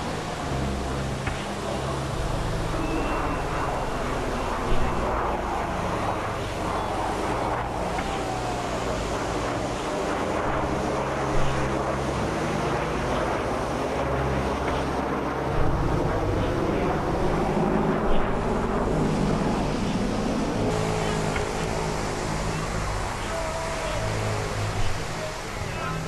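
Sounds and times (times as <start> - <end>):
jets flying overhead: 0.0 - 26.0.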